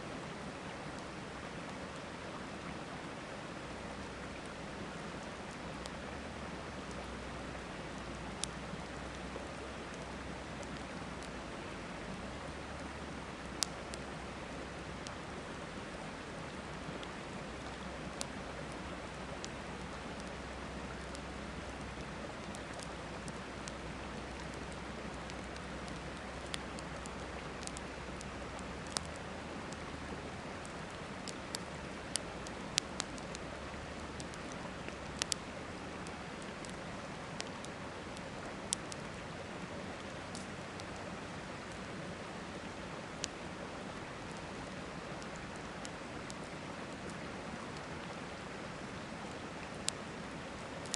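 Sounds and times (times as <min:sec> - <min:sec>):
flowing river: 0:00.0 - 0:50.9
campfire crackling and popping: 0:03.7 - 0:50.9.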